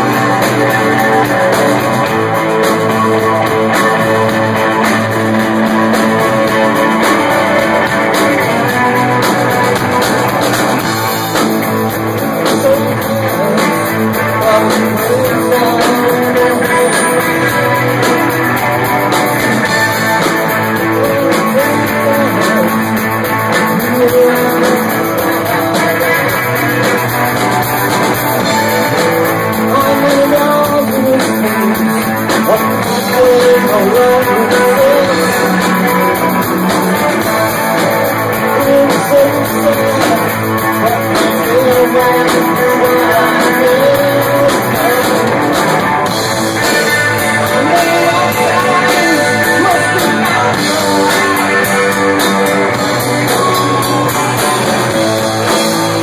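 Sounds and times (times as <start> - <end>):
drum kit: 0.0 - 56.0
electric guitar: 0.0 - 56.0
man singing: 0.0 - 56.0.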